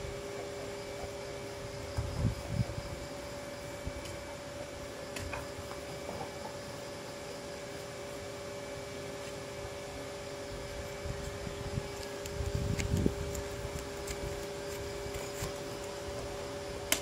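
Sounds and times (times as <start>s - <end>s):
two-tone mechanical hum: 0.0s - 17.0s.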